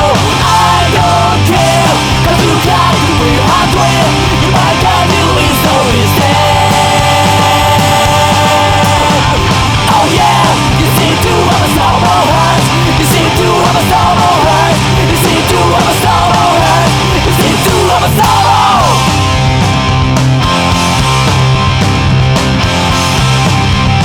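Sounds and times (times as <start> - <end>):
bass guitar: 0.0 - 24.0
distorted electric guitars: 0.0 - 24.0
drums with cymbal hits: 0.0 - 24.0
loud punk rock song: 0.0 - 24.0.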